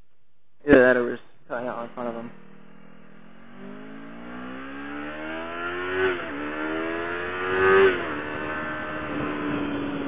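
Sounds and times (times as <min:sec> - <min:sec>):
motorcycle accelerating through shifts: 0:01.7 - 0:10.0.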